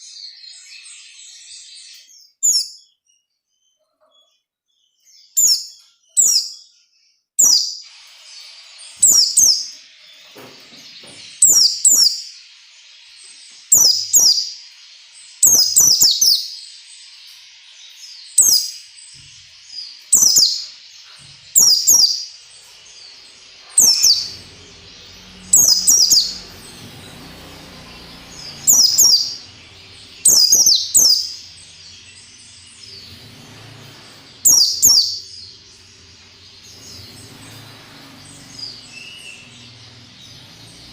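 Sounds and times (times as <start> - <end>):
bird singing high downward notes: 0.0 - 40.9.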